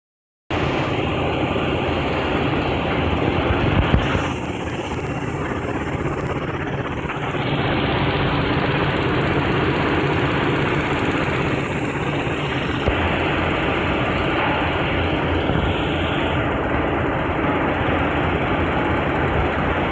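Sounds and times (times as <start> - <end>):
machinery humming and vibrating: 0.5 - 19.9.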